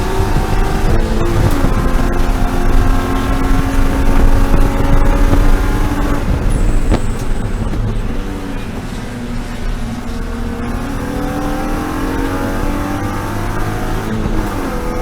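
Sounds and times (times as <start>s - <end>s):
race car engine running: 0.0s - 15.0s.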